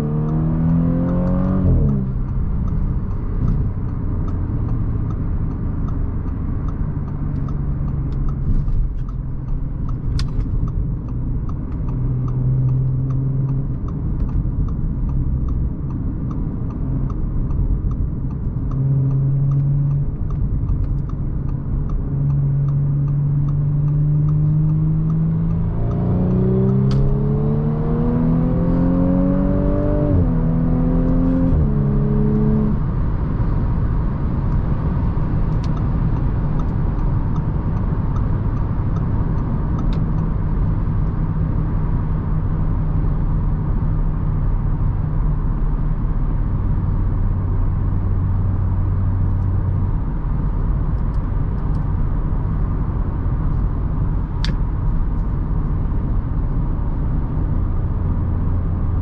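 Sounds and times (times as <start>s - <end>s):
car engine accelerating: 0.0s - 59.0s
tyre and road noise: 0.0s - 59.0s.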